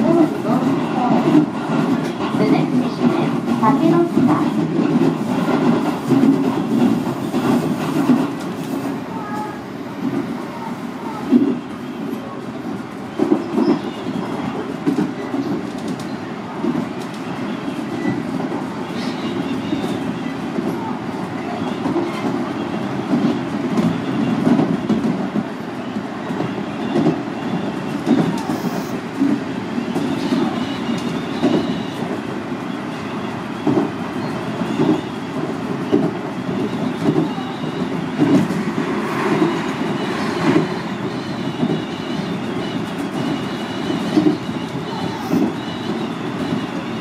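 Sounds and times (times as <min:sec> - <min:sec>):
train rumble: 0:00.0 - 0:47.0.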